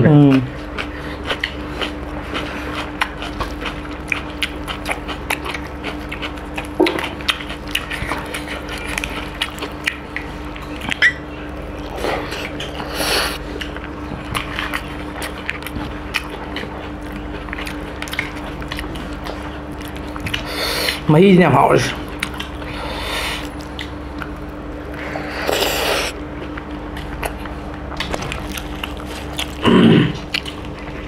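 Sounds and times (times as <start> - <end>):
chewing and lip smacking: 0.2 - 21.1, 22.0 - 31.0.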